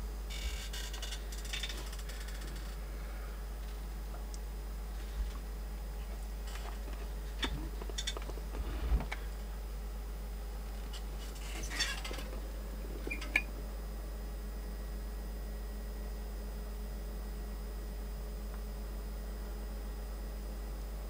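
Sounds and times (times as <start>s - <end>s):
amplifier hum: 0.0s - 21.0s.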